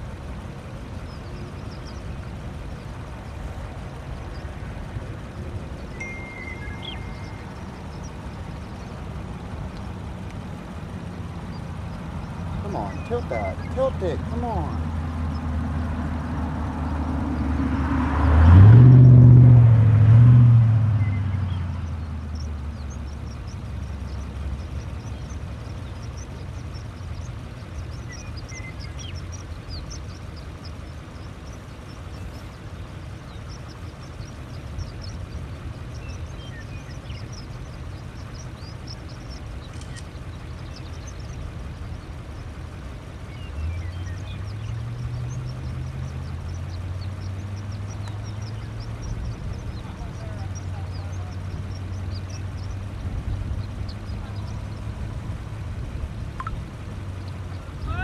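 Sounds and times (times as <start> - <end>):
faint high chirping: 0.0 - 15.6, 20.9 - 54.9, 56.4 - 58.0
low engine hum: 0.0 - 58.0
steady low rumble: 0.0 - 58.0
vehicle passing with engine rumble: 0.0 - 58.0.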